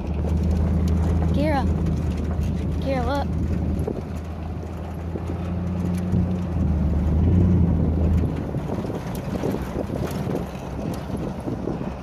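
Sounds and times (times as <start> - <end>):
truck engine drone: 0.0 - 12.0
tyres rumbling on gravel: 0.0 - 12.0
wind buffeting microphone: 0.0 - 12.0.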